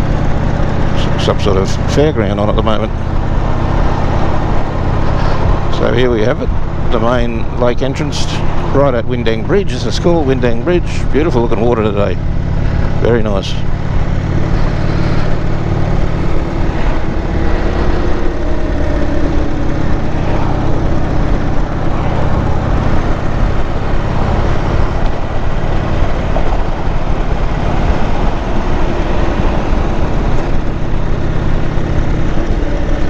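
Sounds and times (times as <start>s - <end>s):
motorcycle engine cruising: 0.0s - 33.0s
wind and road rush: 0.0s - 33.0s.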